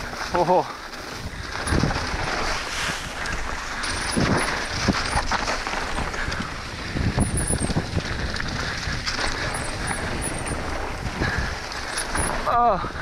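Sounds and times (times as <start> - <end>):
bike rattling over bumps: 0.0 - 13.0
bike tyres rolling over dirt: 0.0 - 13.0
wind on microphone: 1.1 - 13.0.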